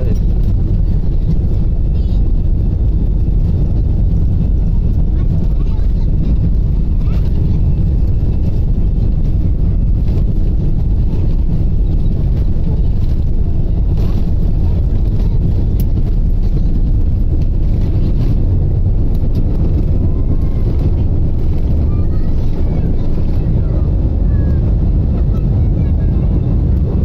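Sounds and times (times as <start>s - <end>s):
jet engines at takeoff thrust: 0.0s - 27.0s.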